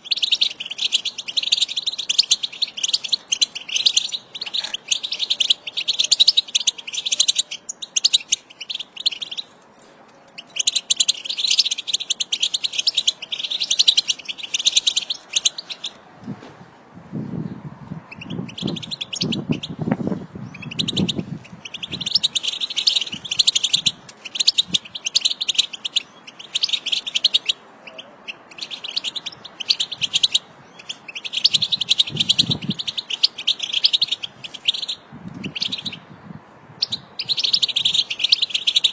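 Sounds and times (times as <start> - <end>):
goldfinches twittering: 0.0 - 9.5, 10.4 - 16.0, 18.1 - 19.8, 20.5 - 36.0, 36.8 - 38.9.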